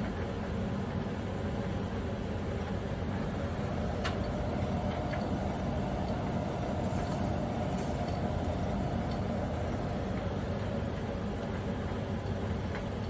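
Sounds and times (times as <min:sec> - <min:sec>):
machine rumble and hum: 0:00.0 - 0:13.0.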